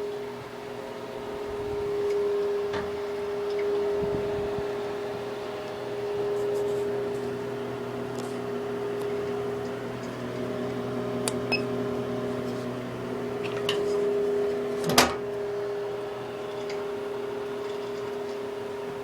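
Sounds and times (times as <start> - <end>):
pellet stove blower humming: 0.0 - 19.0.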